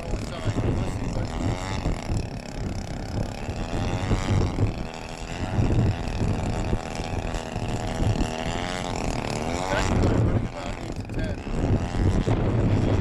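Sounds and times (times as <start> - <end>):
model plane engine: 0.0 - 13.0
wind rumbling on microphone: 0.0 - 13.0.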